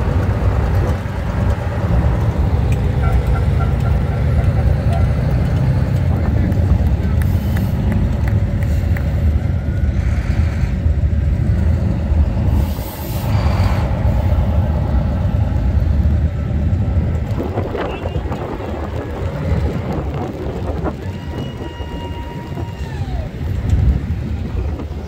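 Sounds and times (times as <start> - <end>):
road vehicles rumbling: 0.0 - 25.0.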